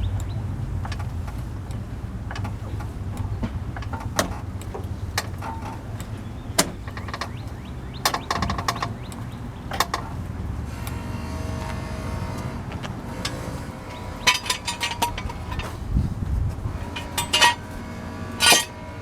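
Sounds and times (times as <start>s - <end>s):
metallic clicks and knocks: 0.0s - 11.0s, 12.4s - 19.0s
steady low hum: 0.0s - 19.0s
ringing metal clatter: 0.8s - 1.6s, 2.2s - 11.2s, 12.3s - 19.0s.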